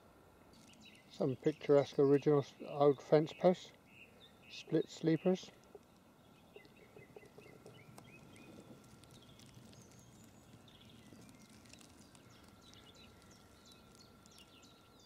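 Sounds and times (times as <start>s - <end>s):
faint birds chirping: 0.4s - 15.0s.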